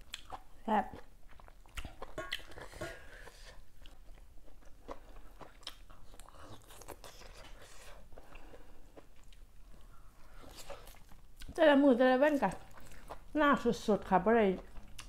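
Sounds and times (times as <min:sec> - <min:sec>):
person chewing: 0:00.0 - 0:11.6, 0:12.5 - 0:13.4, 0:14.6 - 0:15.0.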